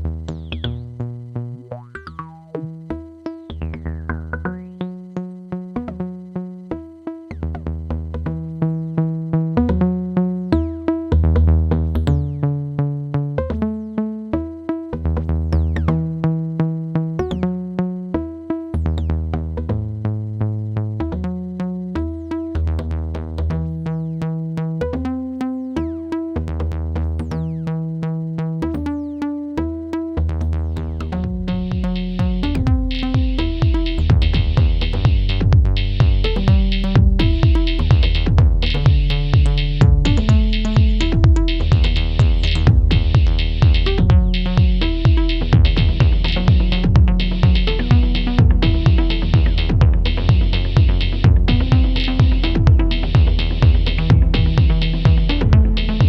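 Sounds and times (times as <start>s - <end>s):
plucked electronic notes: 0.0s - 56.0s
pulsing synth bass line: 0.0s - 56.0s.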